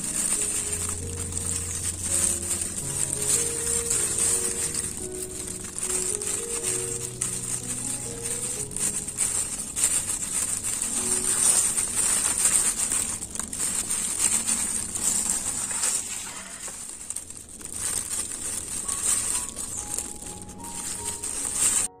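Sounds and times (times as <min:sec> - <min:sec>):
plastic glove crinkling: 0:00.0 - 0:22.0.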